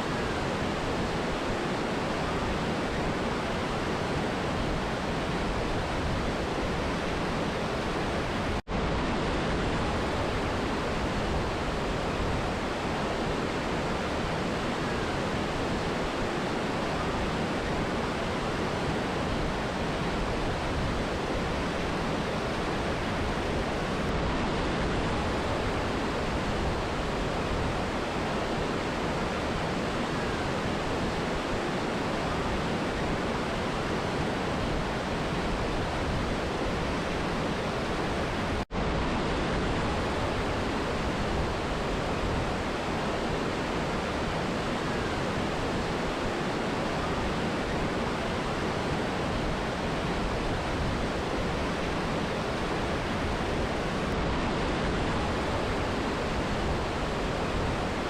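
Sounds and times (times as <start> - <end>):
rushing water of waterfall: 0.0 - 58.0.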